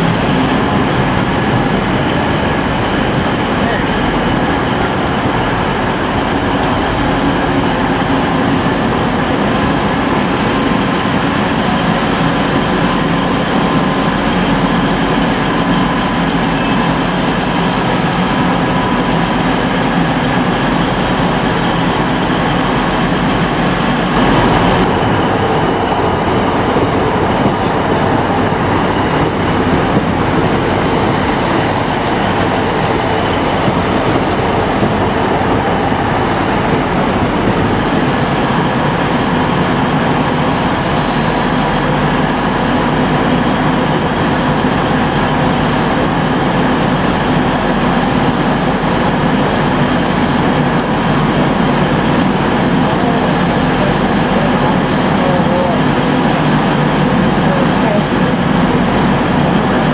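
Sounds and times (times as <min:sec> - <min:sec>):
diesel trains pulling away: 0:00.0 - 0:59.9
diesel trains running past: 0:00.0 - 0:59.9.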